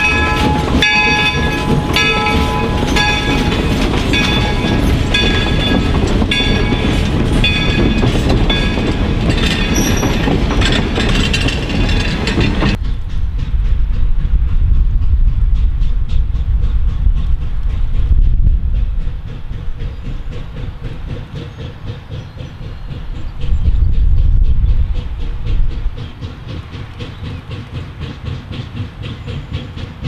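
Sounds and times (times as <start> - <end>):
low locomotive rumble: 0.0 - 30.0
steam locomotive chuffing: 0.0 - 30.0
train wheels clicking over rail joints: 0.0 - 30.0.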